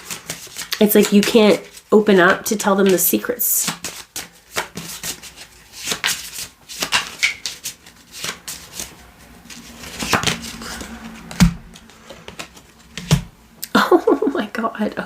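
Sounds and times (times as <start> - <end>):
cards being shuffled: 0.0 - 13.3.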